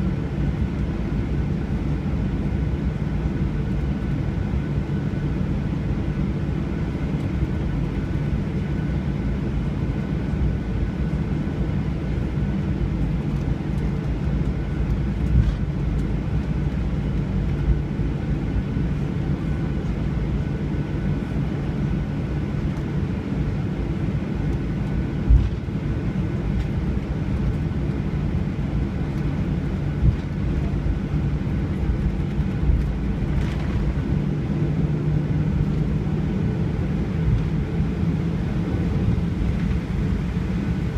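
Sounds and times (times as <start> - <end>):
jet engine cabin drone: 0.0 - 40.9.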